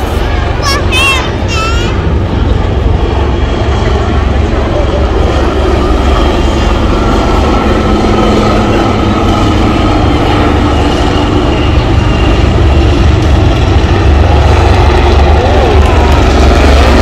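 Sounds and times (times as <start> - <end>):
helicopter rotor rumble: 0.0 - 17.0.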